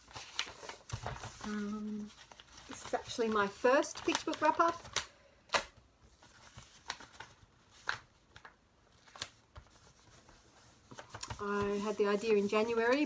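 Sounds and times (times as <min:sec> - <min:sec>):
paper crinkles: 0:00.0 - 0:05.1, 0:06.0 - 0:13.0
paper rustling: 0:00.0 - 0:05.1, 0:06.0 - 0:13.0.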